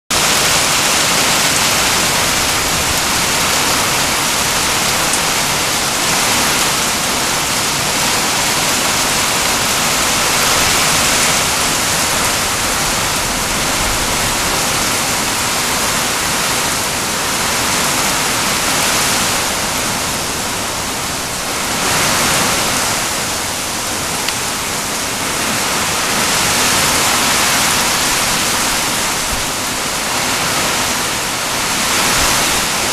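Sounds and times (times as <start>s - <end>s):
heavy rain pouring: 0.1s - 32.9s.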